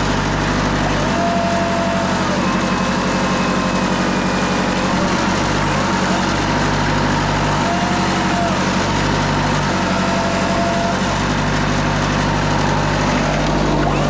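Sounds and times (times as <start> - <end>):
bandsaw mill running: 0.0 - 14.0.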